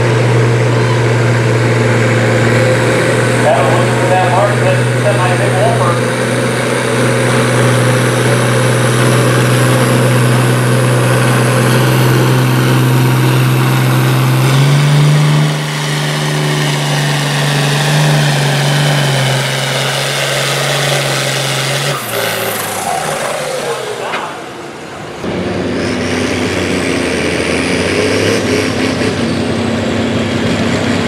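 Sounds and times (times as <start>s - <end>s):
large engine idling: 0.0s - 25.7s.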